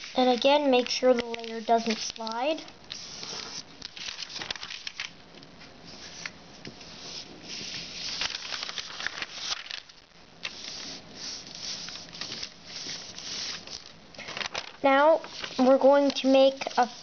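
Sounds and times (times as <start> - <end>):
paper rustling and crackling: 0.0 - 5.2, 6.0 - 17.0.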